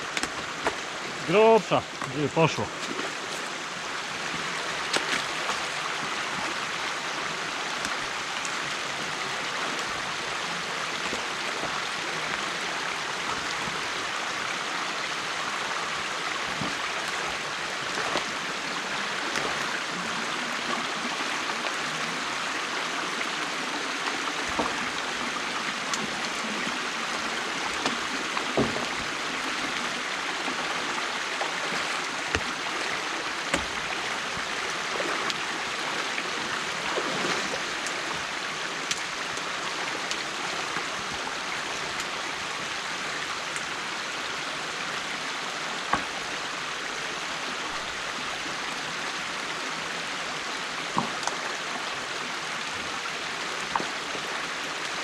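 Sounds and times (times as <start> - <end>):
water rushing through dam: 0.0 - 55.0.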